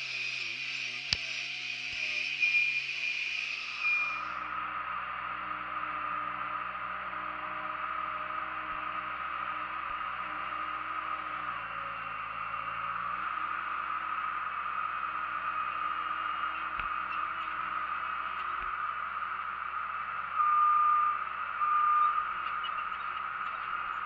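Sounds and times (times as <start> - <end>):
loud high whines: 0.0 - 24.0
skid-steer loader running: 0.0 - 24.0.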